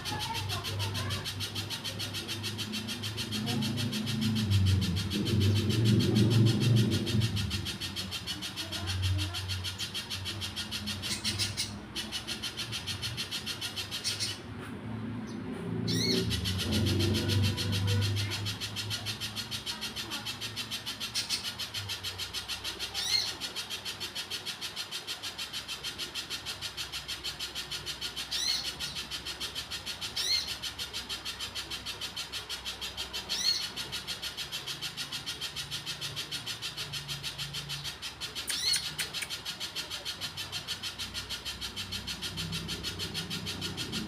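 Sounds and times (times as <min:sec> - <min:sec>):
sharp upward-sweeping bird calls: 0:00.0 - 0:14.5, 0:15.8 - 0:24.4, 0:25.3 - 0:44.0.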